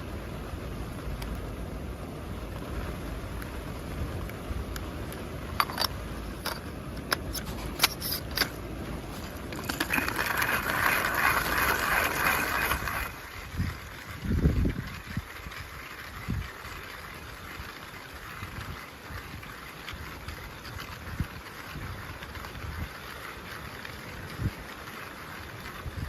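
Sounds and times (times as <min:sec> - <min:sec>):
rain: 0:00.0 - 0:07.6, 0:08.4 - 0:26.0
wind: 0:00.0 - 0:26.0.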